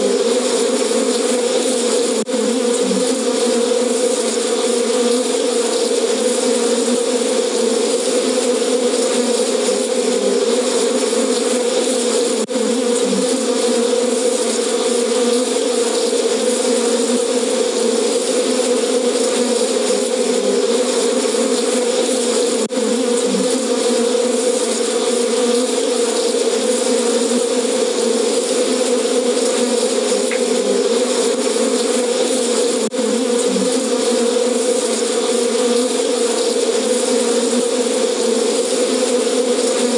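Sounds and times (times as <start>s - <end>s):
bee swarm buzzing: 0.0s - 39.9s.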